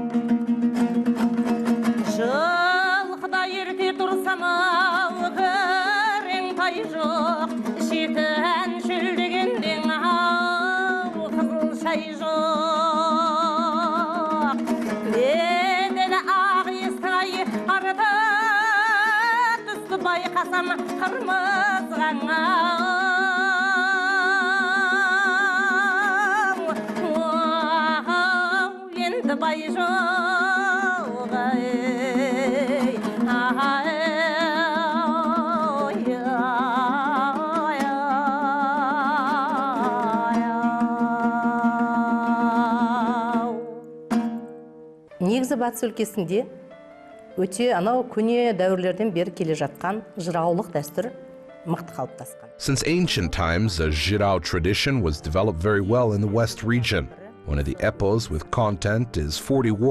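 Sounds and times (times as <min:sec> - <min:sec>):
plucked lute: 0:00.0 - 0:59.9.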